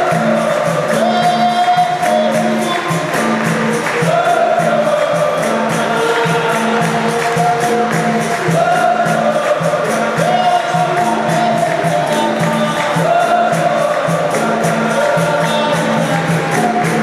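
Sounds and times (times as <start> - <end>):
group singing together: 0.0 - 17.0
hand clapping: 0.0 - 17.0
tambourine jingles: 0.0 - 17.0.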